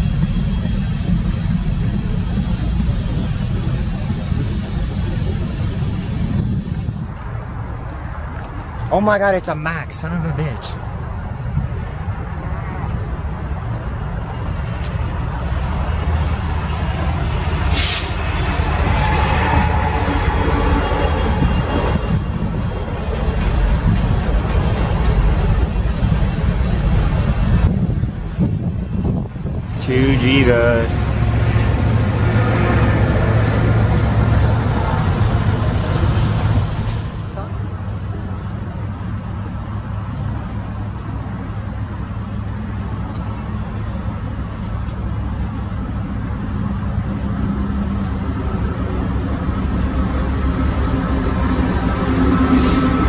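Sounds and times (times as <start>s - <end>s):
diesel locomotive engine drone: 0.0s - 53.0s
train wheels rumbling on rail: 0.0s - 53.0s.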